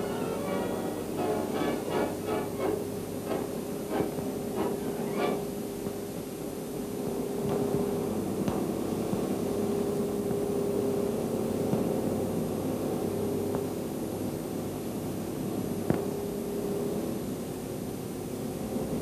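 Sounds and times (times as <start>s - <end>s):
film soundtrack hiss: 0.0s - 19.0s.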